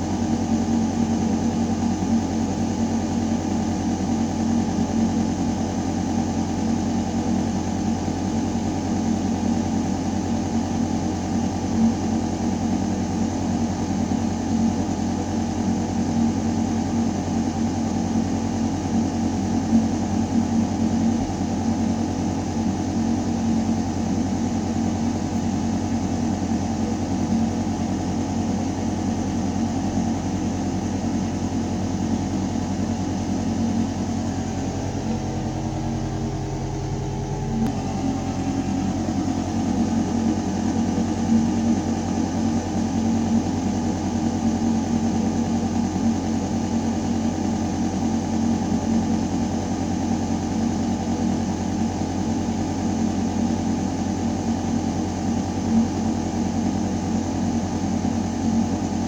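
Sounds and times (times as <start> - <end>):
ventilation system humming: 0.0 - 59.0.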